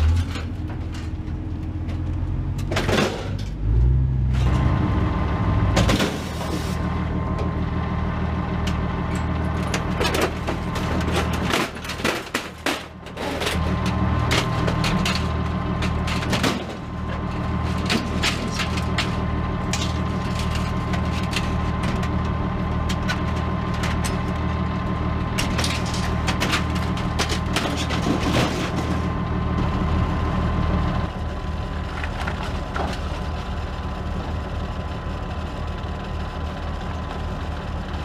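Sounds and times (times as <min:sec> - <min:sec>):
low mechanical drone: 0:00.0 - 0:38.0.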